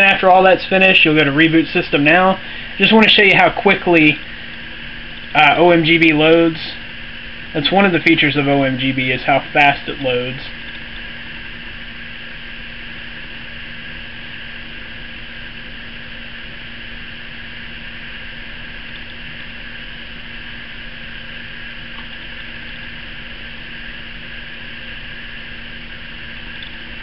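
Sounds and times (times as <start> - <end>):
low hum: 0.0 - 27.0
steady hiss: 0.0 - 27.0.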